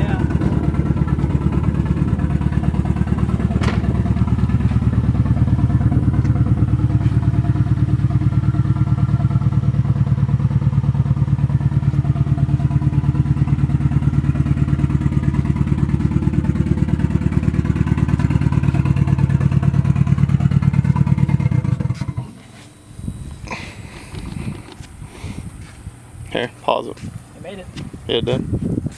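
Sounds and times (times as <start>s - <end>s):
engine with pulsing exhaust: 0.0s - 28.9s.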